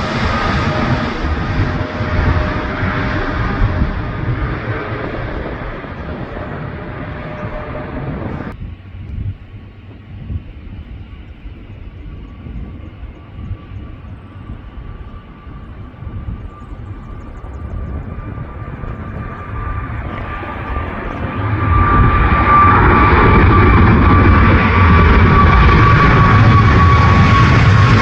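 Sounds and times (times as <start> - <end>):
jet engines on takeoff: 0.0 - 28.0.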